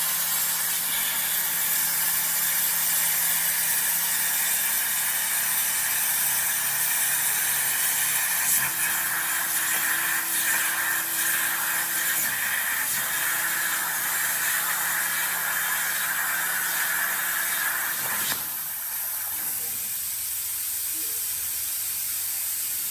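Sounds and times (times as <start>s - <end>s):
plasma torch hissing: 0.0s - 22.9s.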